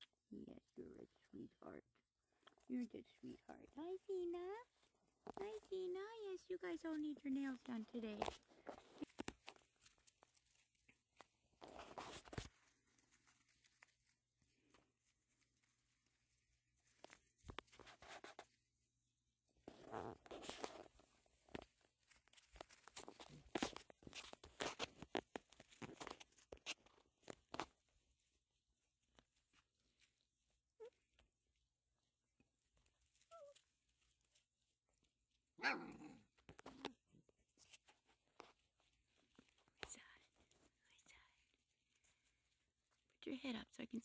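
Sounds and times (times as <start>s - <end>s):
soft rustle: 0.0s - 44.0s.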